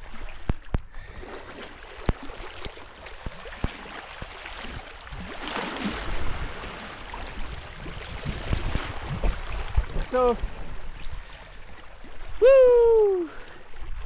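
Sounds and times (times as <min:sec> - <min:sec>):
sea water lapping on rocks: 0:00.0 - 0:12.4.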